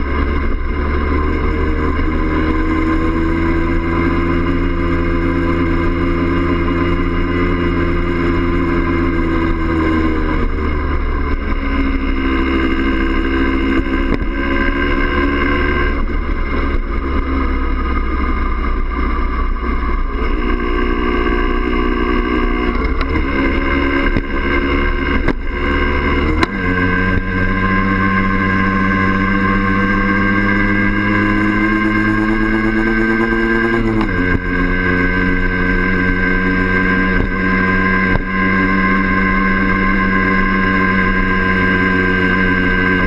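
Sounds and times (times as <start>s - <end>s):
two-stroke motorbike engine: 0.0s - 43.0s.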